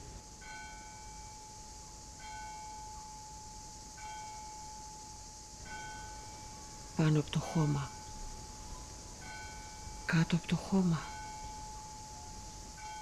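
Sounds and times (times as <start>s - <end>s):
soft bell tones: 0.4s - 13.0s.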